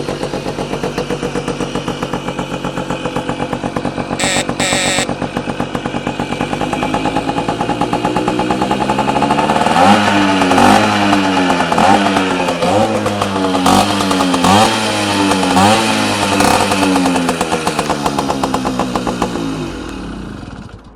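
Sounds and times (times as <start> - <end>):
moped engine revving: 0.0 - 20.8.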